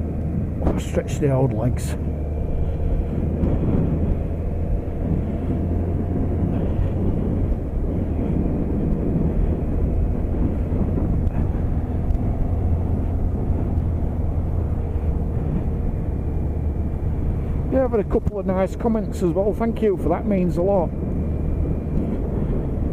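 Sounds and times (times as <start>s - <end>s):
motorcycle engine cruising: 0.0s - 22.9s
wind rushing: 0.0s - 22.9s.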